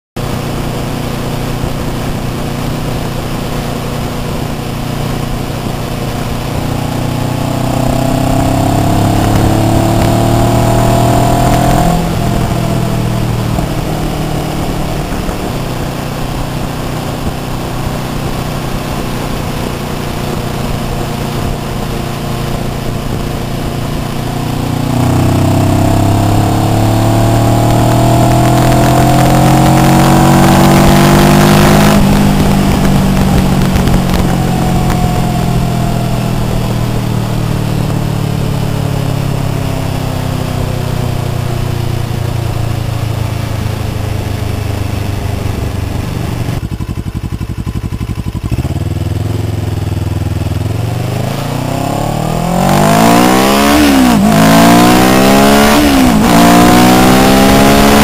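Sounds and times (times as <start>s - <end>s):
motorcycle engine revving: 0.2s - 58.0s
wind noise on microphone: 0.2s - 58.0s.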